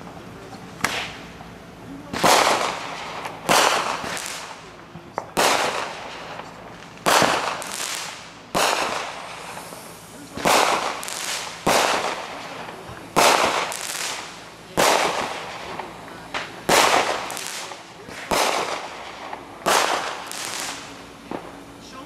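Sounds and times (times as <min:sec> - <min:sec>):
loud explosive bangs: 0:02.1 - 0:04.6, 0:05.3 - 0:21.6.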